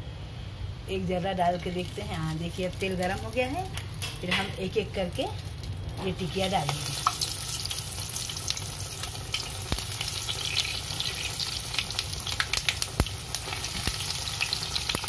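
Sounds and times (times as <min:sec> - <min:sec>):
food deep-frying in hot oil: 0:01.3 - 0:15.0
seeds popping in oil: 0:01.6 - 0:15.0.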